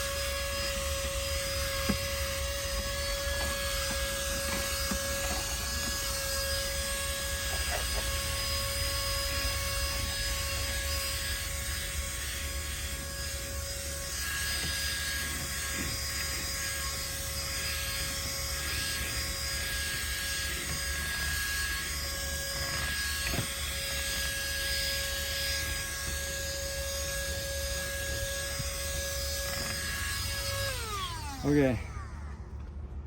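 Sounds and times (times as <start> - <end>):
handheld vacuum whining: 0.0 - 33.0.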